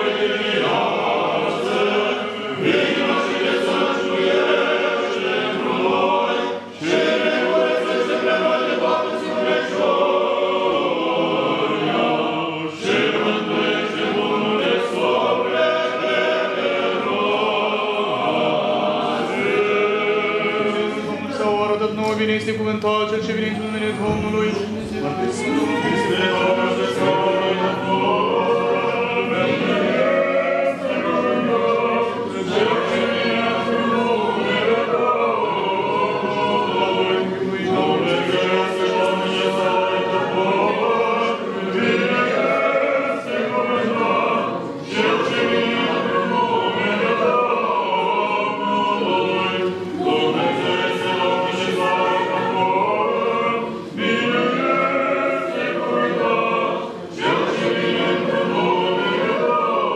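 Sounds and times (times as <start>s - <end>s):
choir chanting unaccompanied: 0.0s - 59.9s.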